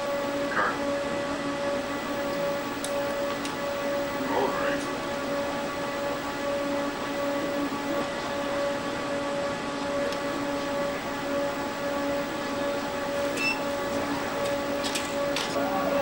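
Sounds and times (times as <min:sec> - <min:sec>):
electrical hum with tones: 0:00.0 - 0:16.0.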